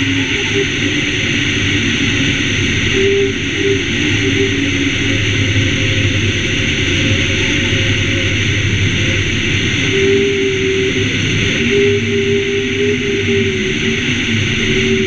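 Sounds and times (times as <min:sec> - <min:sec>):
airplane engine and propeller: 0:00.0 - 0:15.0.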